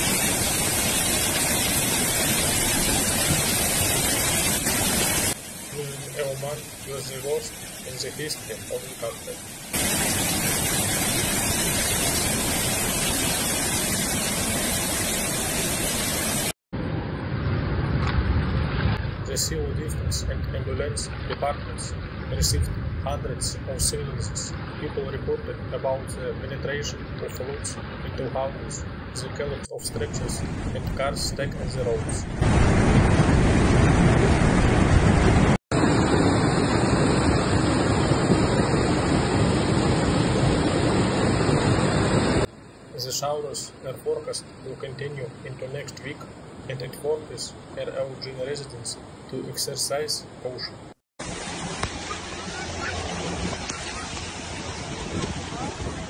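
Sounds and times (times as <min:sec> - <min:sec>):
floodwater rushing: 0:00.0 - 0:16.6, 0:18.6 - 0:56.0.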